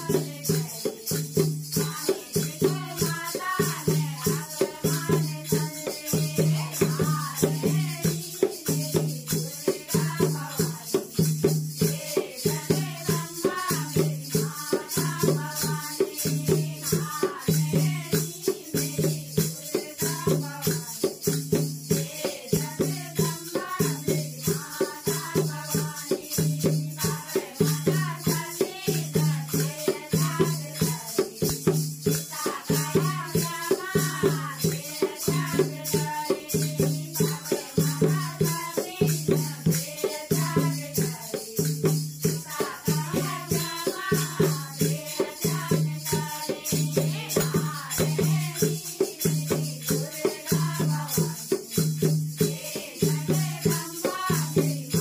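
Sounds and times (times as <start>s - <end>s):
hand drum beat: 0.0s - 55.0s
jingling tongs and hand cymbals: 0.0s - 55.0s
women singing devotional song: 0.0s - 55.0s.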